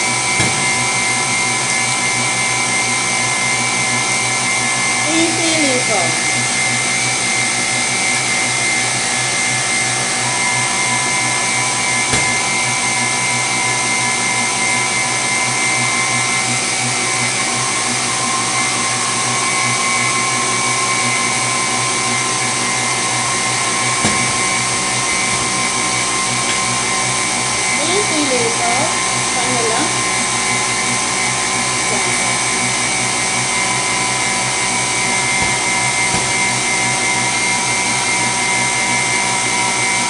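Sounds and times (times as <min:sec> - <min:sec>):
electric stand mixer whining: 0:00.0 - 0:40.0.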